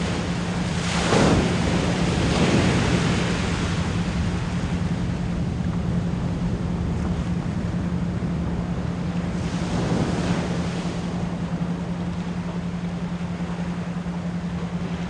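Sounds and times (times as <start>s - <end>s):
ocean waves breaking: 0.0s - 15.0s
steady pure tone: 0.0s - 15.0s.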